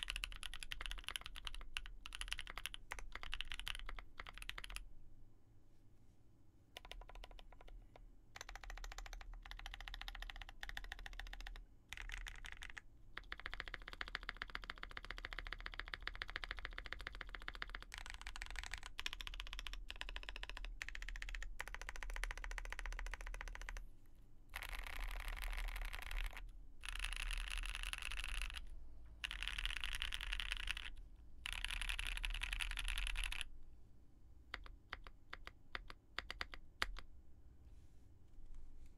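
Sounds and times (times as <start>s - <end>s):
fast mechanical keyboard typing: 0.0s - 4.8s, 6.8s - 7.8s, 8.4s - 23.8s, 24.5s - 33.5s, 34.5s - 37.0s.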